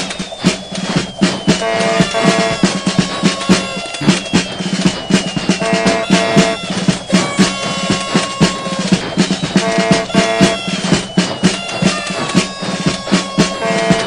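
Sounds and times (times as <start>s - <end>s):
drum-kit beat: 0.0s - 14.0s
held melody notes: 0.0s - 14.0s.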